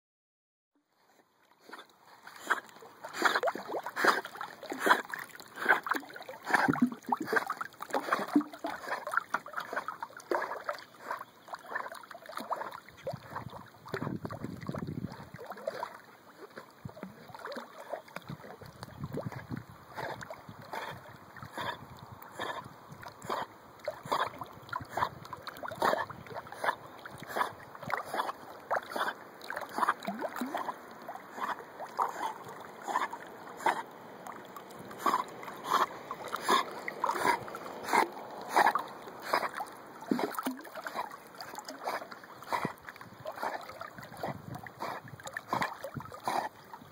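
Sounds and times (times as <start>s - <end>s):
water splashing and slapping: 1.5s - 46.9s.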